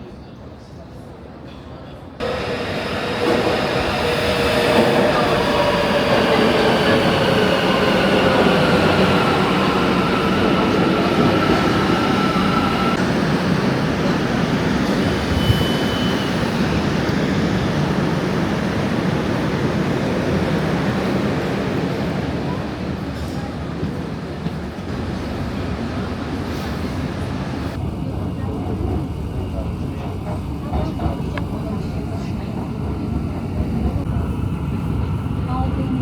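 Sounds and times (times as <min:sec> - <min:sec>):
metro train rumbling: 0:00.0 - 0:36.0.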